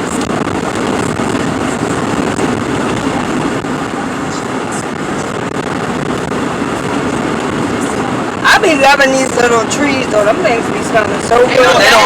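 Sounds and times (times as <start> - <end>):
road noise inside a moving car: 0.0 - 12.0.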